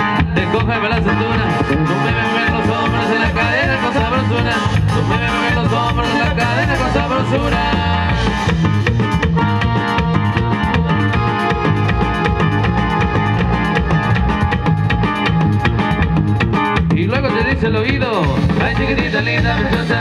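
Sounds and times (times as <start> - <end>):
button accordion melody: 0.0 - 17.0
bass: 0.0 - 20.0
drum kit: 0.0 - 20.0
strummed guitar: 0.0 - 20.0.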